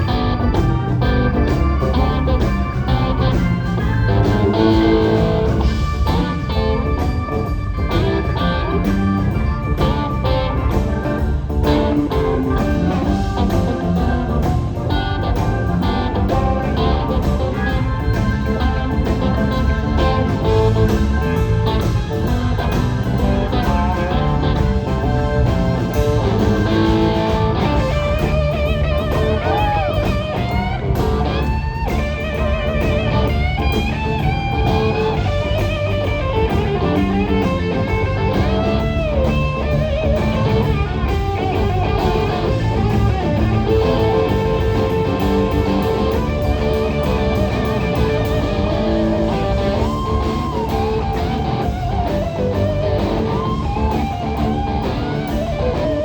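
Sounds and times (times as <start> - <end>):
blues-rock band playing: 0.0 - 56.0
electric lead guitar bending notes: 0.0 - 56.0.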